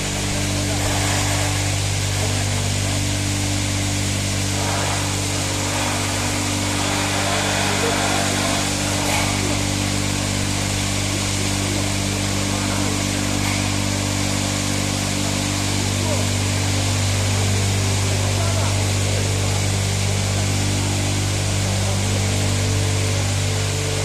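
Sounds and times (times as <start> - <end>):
continuous hiss: 0.0 - 24.0
machine motor hum: 0.0 - 24.0.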